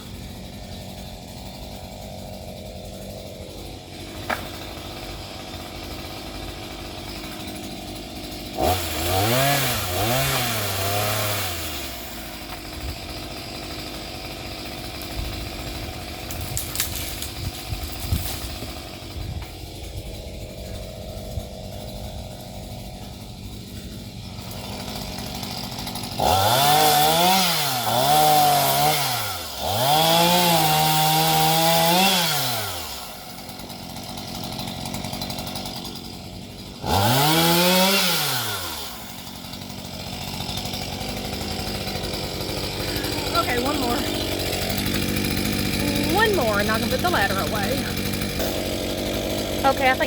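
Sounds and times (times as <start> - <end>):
chainsaw idling and revving: 0.0 - 50.0.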